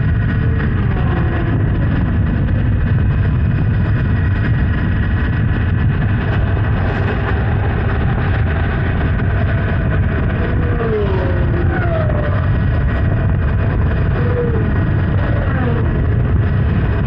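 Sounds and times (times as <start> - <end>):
motorcycle engine running: 0.0 - 17.0
wind noise rumble: 0.0 - 17.0.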